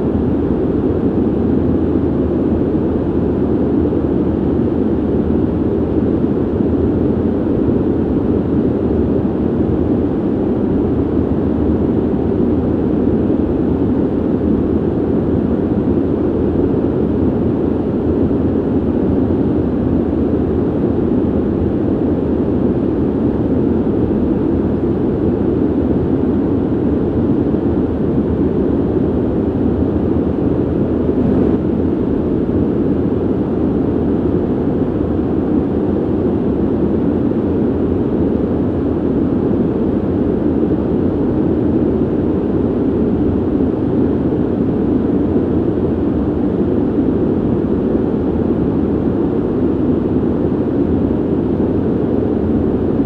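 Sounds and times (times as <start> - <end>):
ventilation air rush: 0.0 - 53.0.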